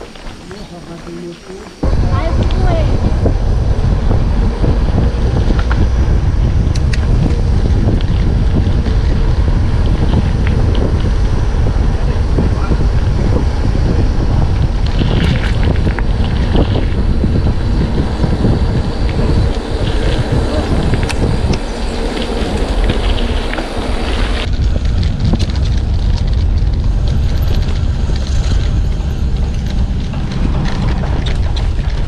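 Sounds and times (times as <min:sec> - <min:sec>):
wind buffeting microphone: 0:00.0 - 0:32.0
bike clicks and rattles: 0:03.7 - 0:32.0.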